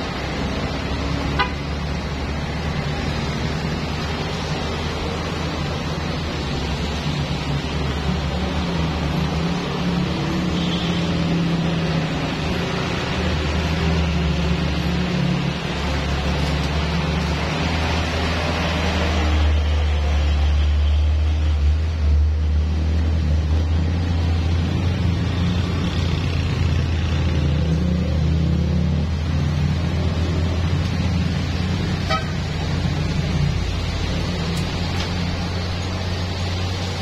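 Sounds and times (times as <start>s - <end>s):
road and tyre noise: 0.0s - 37.0s
truck engine drone: 0.0s - 37.0s.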